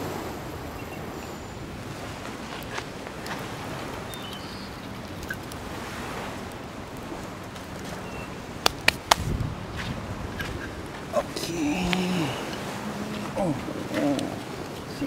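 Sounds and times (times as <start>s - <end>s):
lake waves: 0.0s - 15.0s
wind: 0.0s - 15.0s.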